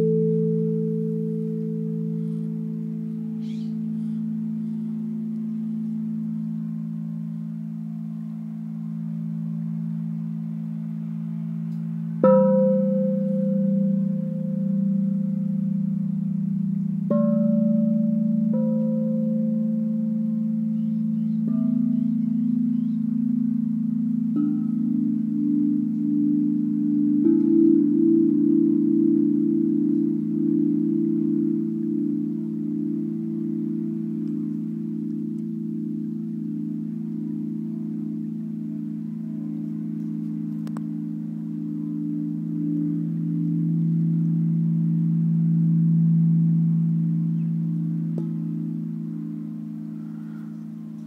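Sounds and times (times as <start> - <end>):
deep wind chime tones: 0.0 - 51.0.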